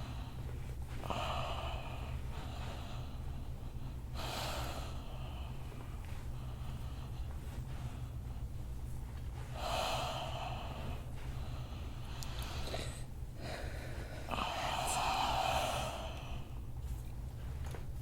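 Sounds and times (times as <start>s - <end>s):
person breathing deeply: 0.0s - 8.5s, 9.4s - 16.8s.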